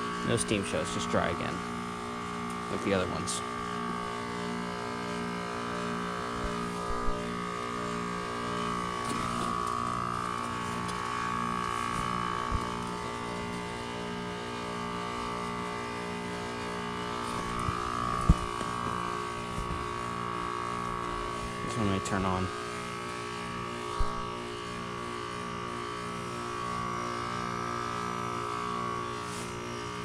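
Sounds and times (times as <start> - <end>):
heat pump compressor and fan hum: 0.0 - 30.0.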